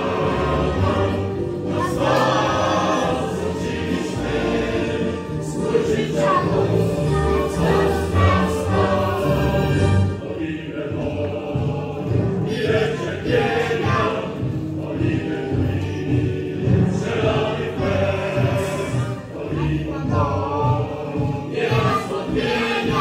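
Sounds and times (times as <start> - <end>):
children singing together: 0.0 - 23.0
instrumental backing music: 0.0 - 23.0.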